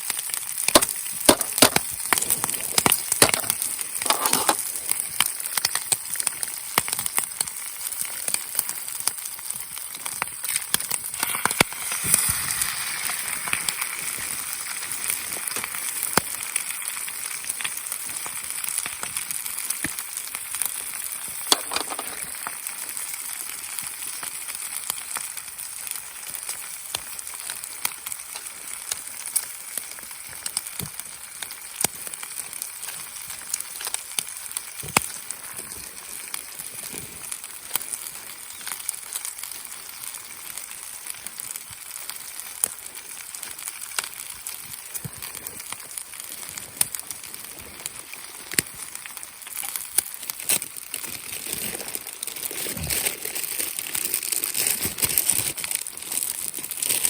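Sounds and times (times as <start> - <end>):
campfire crackling: 0.0 - 57.0
steady hiss: 0.0 - 57.0.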